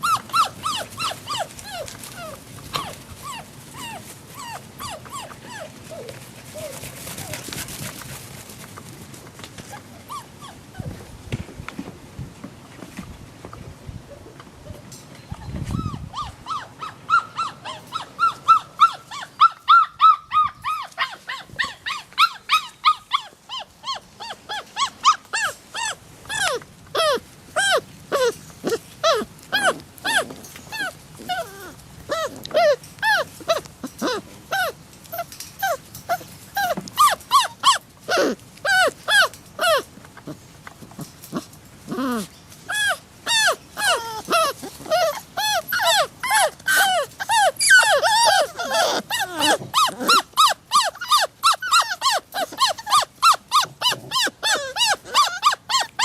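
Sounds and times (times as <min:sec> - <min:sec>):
puppy yipping and whimpering: 0:00.0 - 0:07.4, 0:09.7 - 0:10.9, 0:15.4 - 0:39.9, 0:41.3 - 0:56.0.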